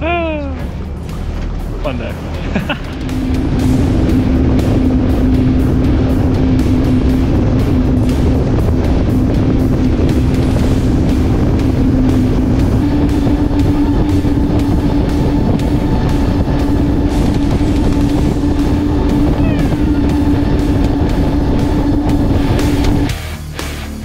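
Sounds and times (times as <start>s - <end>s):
rushing water and spray: 0.0s - 23.1s
wind: 0.0s - 23.2s
boat engine drone: 0.0s - 24.0s
music playing: 0.0s - 24.0s.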